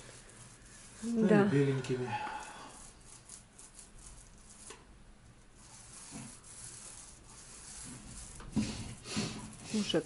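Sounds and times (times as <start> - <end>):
paintbrush squishing in paint: 0.0 - 10.0.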